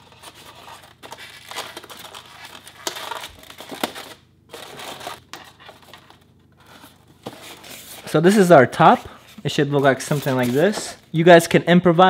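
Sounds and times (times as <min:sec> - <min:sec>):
cardboard crinkling and rustling: 0:00.0 - 0:11.0.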